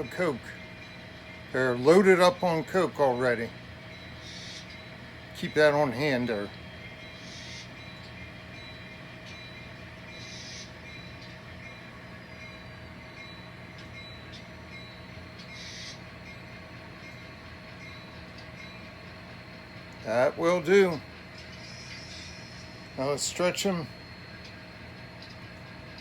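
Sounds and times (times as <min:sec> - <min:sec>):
model train humming on track: 0:00.0 - 0:26.0.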